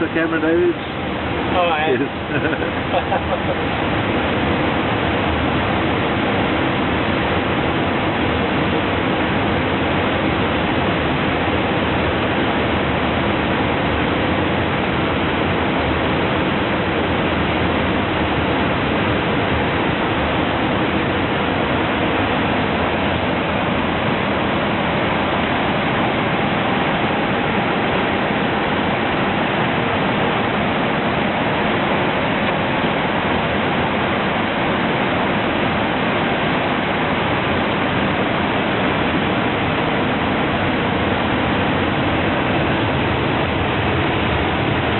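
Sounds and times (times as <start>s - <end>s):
air-conditioning noise: 0.0s - 44.9s
airflow over aircraft fuselage: 0.0s - 44.9s.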